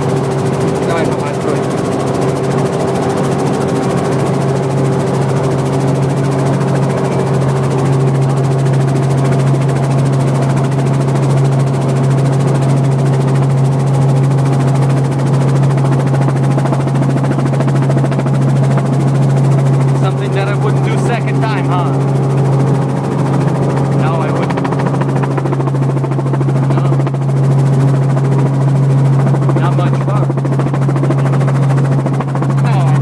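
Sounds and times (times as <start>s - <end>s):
helicopter rotor drone: 0.0s - 33.0s.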